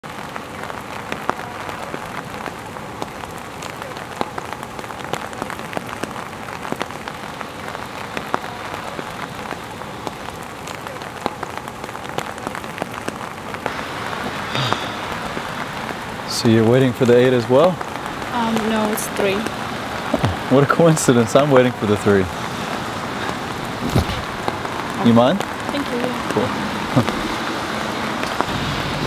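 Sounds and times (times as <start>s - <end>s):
raindrops ticking: 0.0s - 29.0s
steady rain on wet street: 0.0s - 29.0s.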